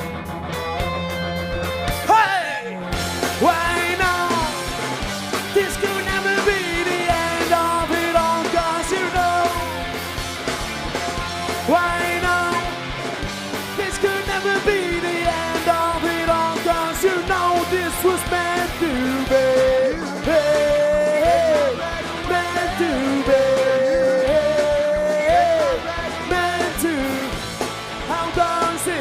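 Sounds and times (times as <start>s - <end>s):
drum and bass beat: 0.0s - 29.0s.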